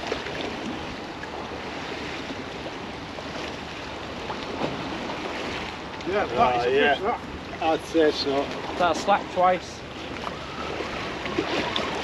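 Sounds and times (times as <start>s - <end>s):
waves washing against bank: 0.0s - 12.0s
wind: 0.0s - 12.0s.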